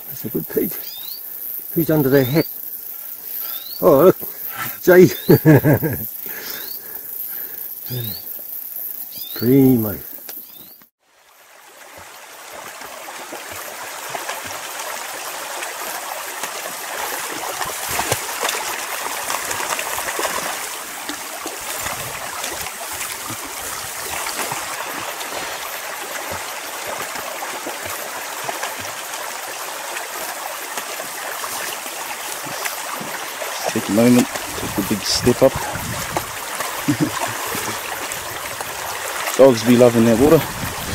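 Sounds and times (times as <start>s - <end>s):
creek water flowing: 0.0s - 8.2s, 11.0s - 40.9s.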